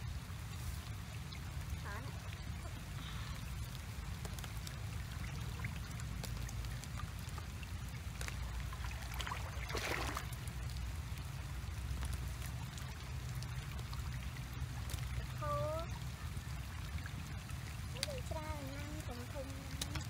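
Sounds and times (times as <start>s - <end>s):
short splashing rustle: 0.0s - 20.0s
steady low rumble: 0.0s - 20.0s
water trickling and splashing: 0.0s - 20.0s.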